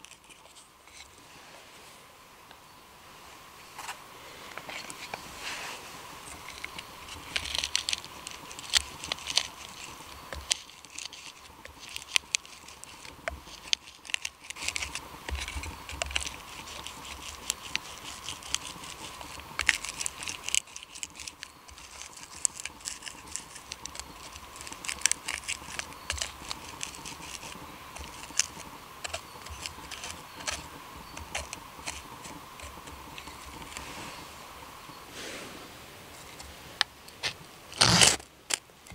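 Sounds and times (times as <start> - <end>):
knife scraping bark: 3.8 - 34.4, 36.1 - 38.9.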